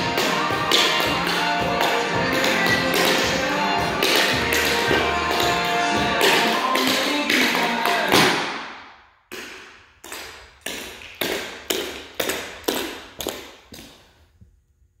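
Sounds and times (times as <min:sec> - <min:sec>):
tap shoes on wooden floor: 0:00.0 - 0:08.6, 0:09.3 - 0:14.0.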